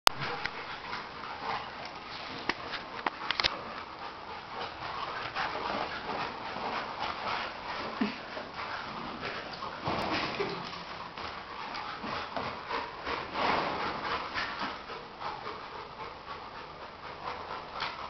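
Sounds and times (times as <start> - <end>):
dogs scuffling and growling: 0.2 - 18.0.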